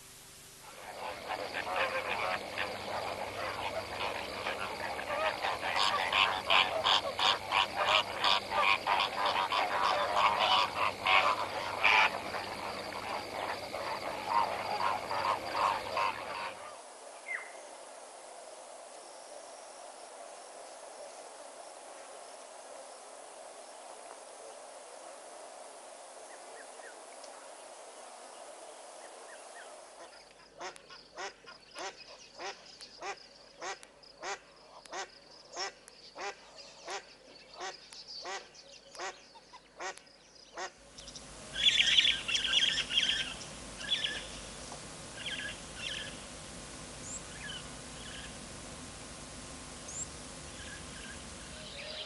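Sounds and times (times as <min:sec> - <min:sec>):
outdoor background hiss: 0:00.0 - 0:52.0
frogs croaking: 0:00.6 - 0:25.2, 0:26.1 - 0:52.0.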